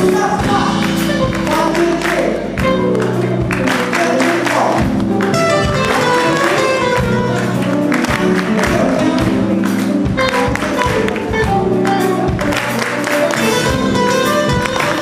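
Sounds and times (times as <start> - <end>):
electric guitar: 0.0 - 15.0
live band playing soul-jazz: 0.0 - 15.0
steady drum beat: 0.0 - 15.0.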